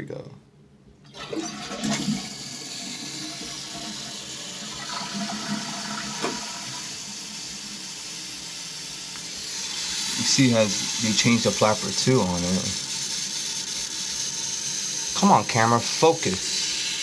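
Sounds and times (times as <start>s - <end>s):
toilet flushing: 1.0s - 17.0s.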